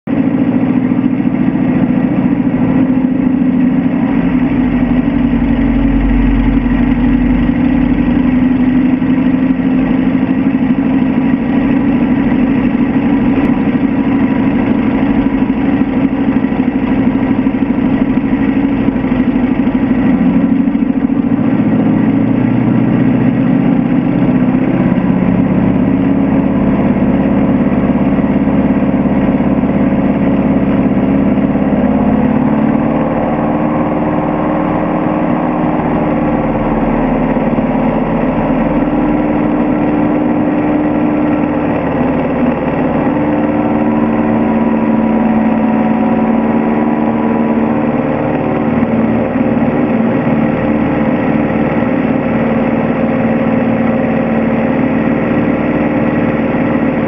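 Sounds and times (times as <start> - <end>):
aircraft engine and propeller running: 0.0 - 57.0.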